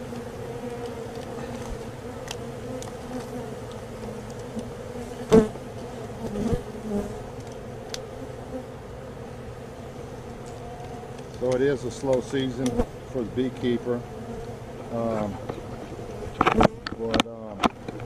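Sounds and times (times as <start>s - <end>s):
bees buzzing close by: 0.0s - 17.1s
bees buzzing: 0.0s - 18.0s.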